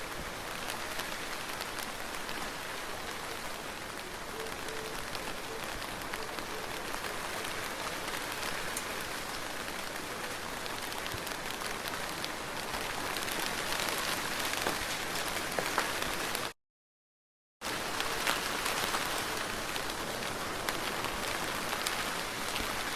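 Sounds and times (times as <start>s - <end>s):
soft rain falling: 0.0s - 16.6s, 17.6s - 22.9s.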